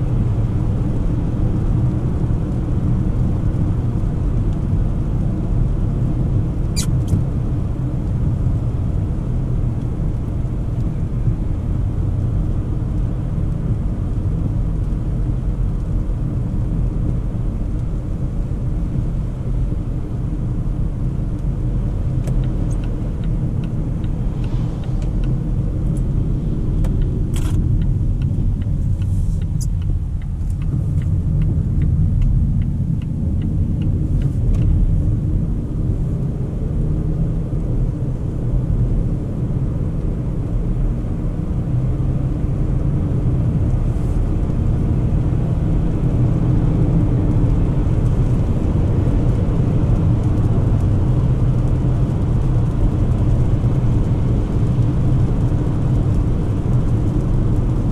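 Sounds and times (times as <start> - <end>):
car engine rumble: 0.0 - 57.9
tyre noise on wet road: 0.0 - 57.9.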